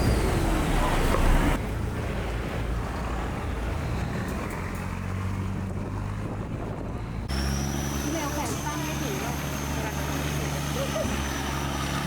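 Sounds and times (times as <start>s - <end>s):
boat engine drone: 0.0s - 3.8s, 5.3s - 12.0s.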